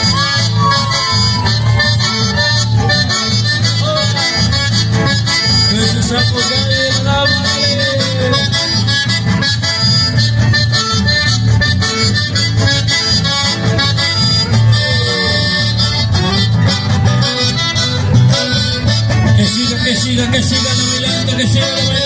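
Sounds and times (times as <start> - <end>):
accordion melody: 0.0 - 22.0
live band dance music: 0.0 - 22.0.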